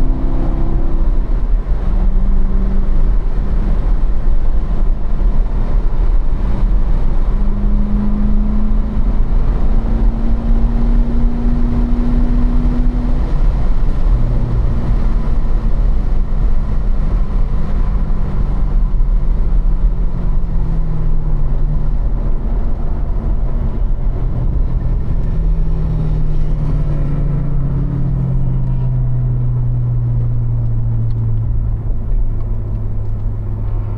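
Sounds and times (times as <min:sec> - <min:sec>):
low road rumble: 0:00.0 - 0:33.9.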